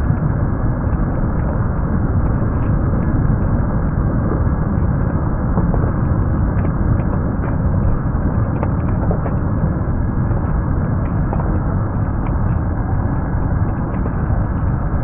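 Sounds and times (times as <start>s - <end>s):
loud low rumbling noise: 0.0s - 15.0s.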